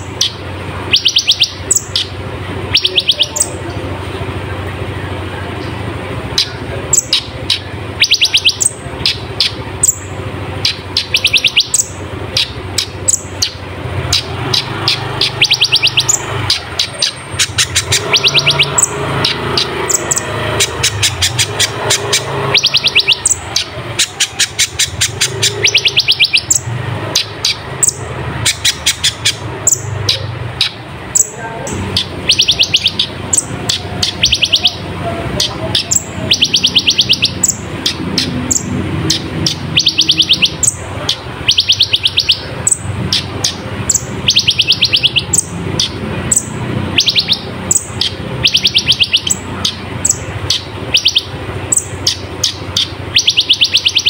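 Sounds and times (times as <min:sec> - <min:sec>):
bird singing rattling trills: 0:00.0 - 0:03.8, 0:05.5 - 0:54.0
steady low hum: 0:00.0 - 0:53.2.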